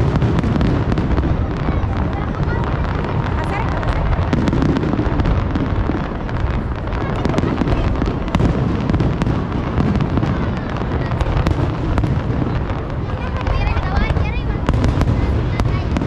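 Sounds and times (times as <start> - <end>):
fireworks booming: 0.0 - 16.0
fireworks cracking and popping: 0.0 - 16.0.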